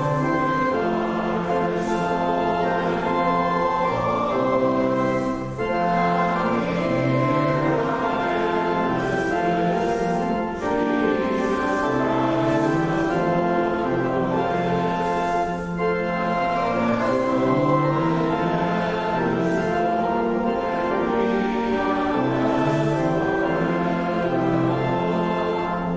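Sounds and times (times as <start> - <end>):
church organ: 0.0 - 25.9
congregation singing a hymn: 0.0 - 25.9.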